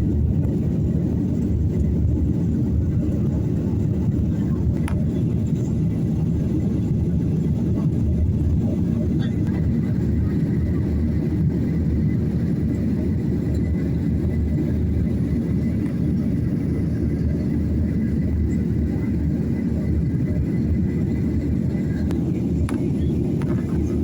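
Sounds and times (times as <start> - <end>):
airliner engine rumble in cabin: 0.0 - 24.0.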